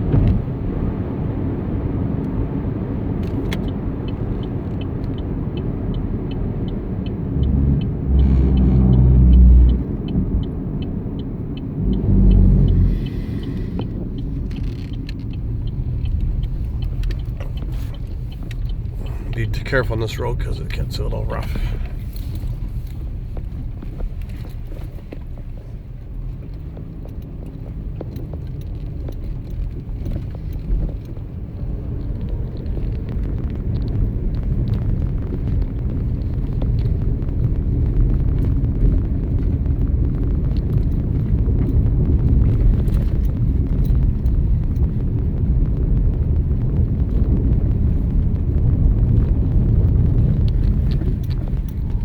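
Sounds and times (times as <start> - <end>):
van road rumble: 0.0 - 52.0.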